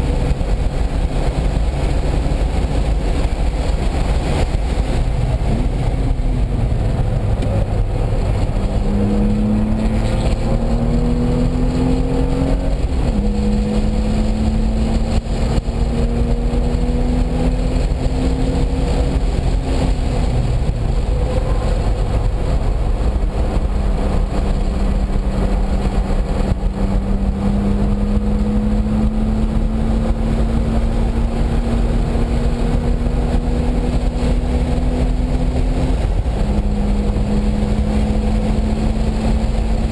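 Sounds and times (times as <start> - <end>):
constant low rumble: 0.0 - 39.9
race car engine accelerating: 0.0 - 39.9.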